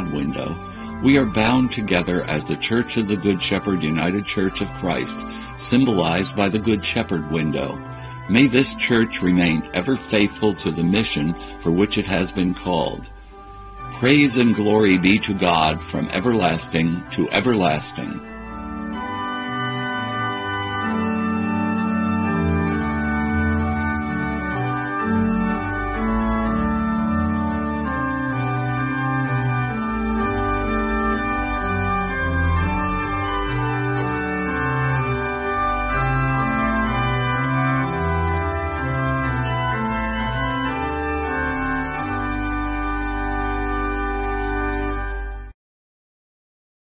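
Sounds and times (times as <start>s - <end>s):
deep organ bass notes: 0.0s - 45.5s
organ chords: 0.0s - 45.6s.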